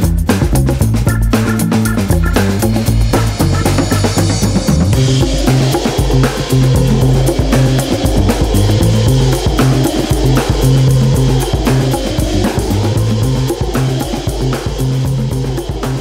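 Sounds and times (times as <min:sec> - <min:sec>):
bass line: 0:00.0 - 0:16.0
drum kit beat: 0:00.0 - 0:16.0.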